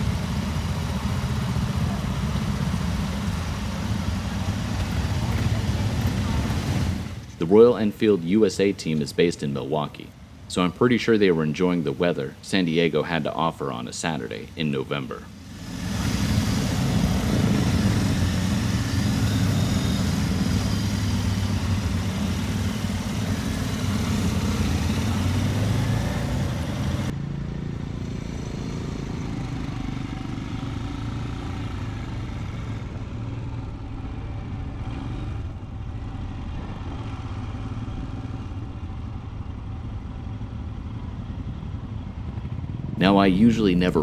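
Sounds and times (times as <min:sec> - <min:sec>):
motorcycle engine running at low speed: 0:00.0 - 0:07.8, 0:15.2 - 0:44.0
motorcycle engines idling: 0:00.0 - 0:44.0.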